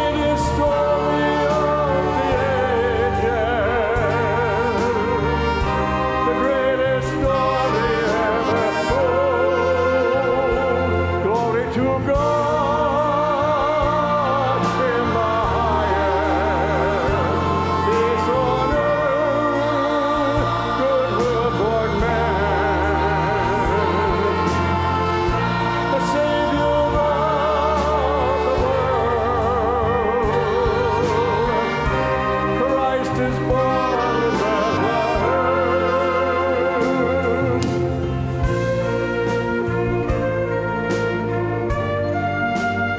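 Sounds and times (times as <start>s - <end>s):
choir singing: 0.0s - 41.4s
instrumental accompaniment with bass: 0.0s - 42.9s.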